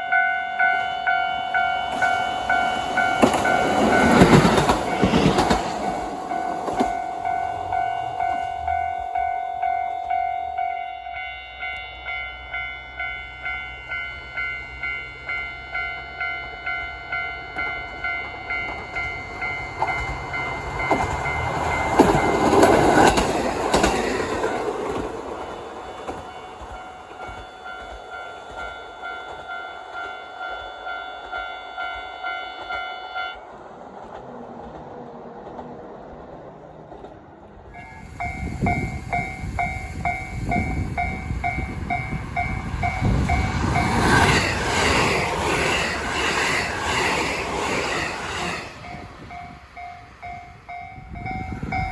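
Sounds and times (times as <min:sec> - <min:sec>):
level crossing warning bell: 0:00.0 - 0:33.4, 0:37.8 - 0:51.9
train passing loudly: 0:00.0 - 0:51.9.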